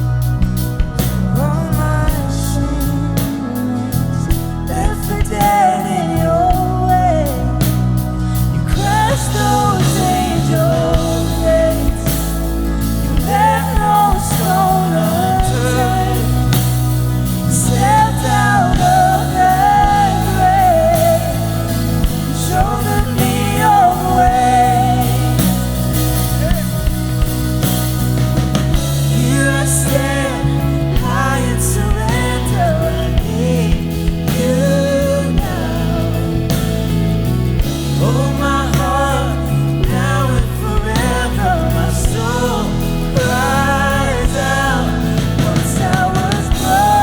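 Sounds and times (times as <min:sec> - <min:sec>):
lead singer singing: 0:00.0 - 0:47.0
worship band playing: 0:00.0 - 0:47.0.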